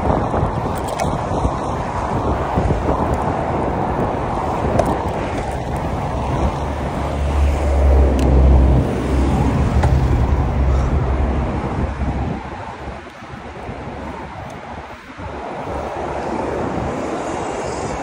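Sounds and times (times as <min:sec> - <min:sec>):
low wind buffeting: 0:00.0 - 0:18.0
wind rushing over microphone: 0:00.0 - 0:18.0.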